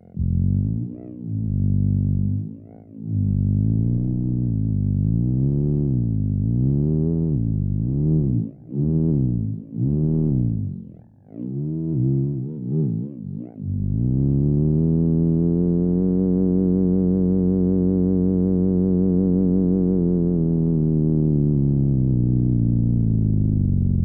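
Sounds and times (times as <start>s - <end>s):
low synthesizer drone: 0.0s - 24.0s
warbling synthesizer tone: 0.0s - 24.0s.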